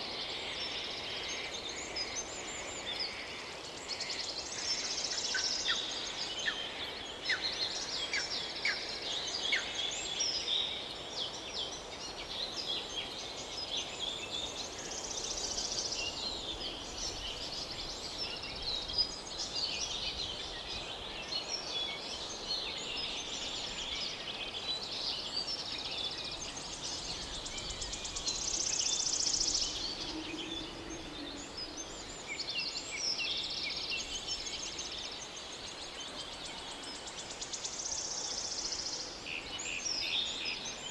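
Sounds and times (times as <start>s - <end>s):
steady outdoor hiss: 0.0s - 40.9s.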